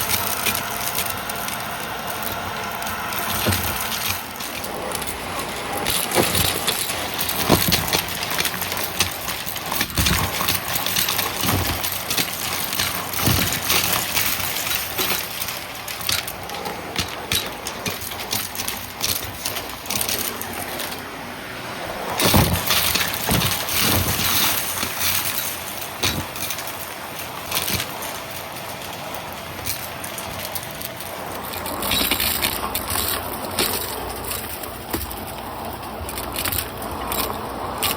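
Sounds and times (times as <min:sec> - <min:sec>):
debris crackling in vacuum: 0:00.0 - 0:37.9
vacuum cleaner running: 0:00.0 - 0:37.9.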